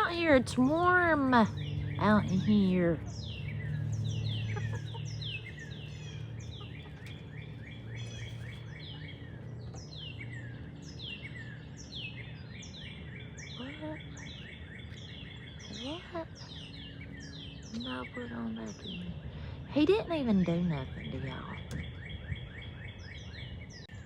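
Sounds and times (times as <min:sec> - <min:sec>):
birds chirping: 0:00.0 - 0:24.0
low steady hum: 0:00.0 - 0:24.0.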